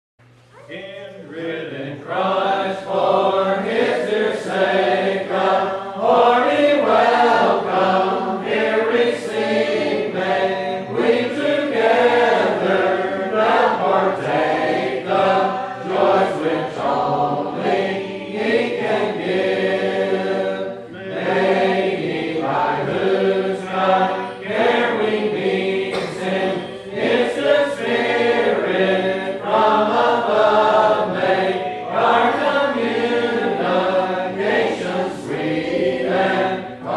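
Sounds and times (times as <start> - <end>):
congregation singing a hymn: 0.5 - 36.9.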